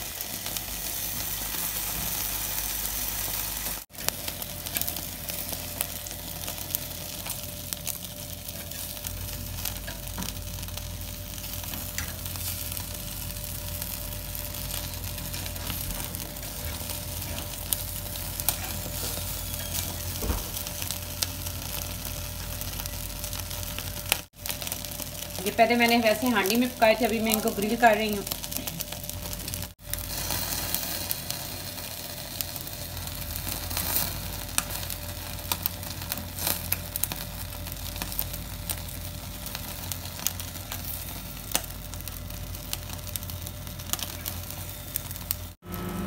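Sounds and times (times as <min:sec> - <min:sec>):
chicken sizzling and crackling: 0:00.0 - 0:46.0
gas burner hissing: 0:00.0 - 0:46.0.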